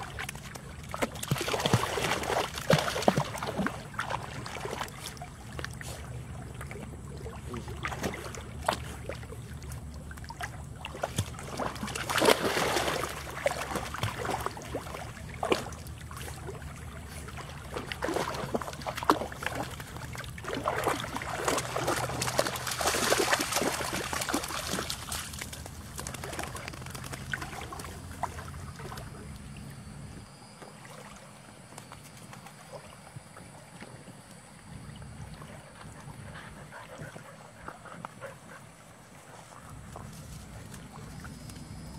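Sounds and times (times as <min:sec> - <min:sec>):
puppies splashing in water: 0:00.0 - 0:30.0, 0:30.6 - 0:41.9.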